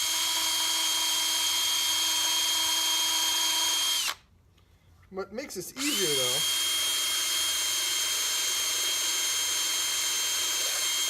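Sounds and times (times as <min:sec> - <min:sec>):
cordless drill sanding wood: 0:00.0 - 0:04.2, 0:05.8 - 0:11.0.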